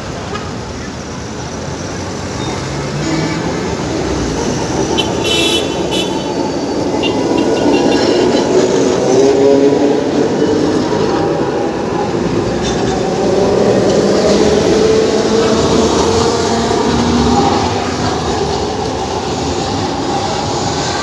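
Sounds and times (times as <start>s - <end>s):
tram rumbling on rails: 0.0s - 21.0s
tram wheel squeal: 0.4s - 9.4s, 10.1s - 21.0s.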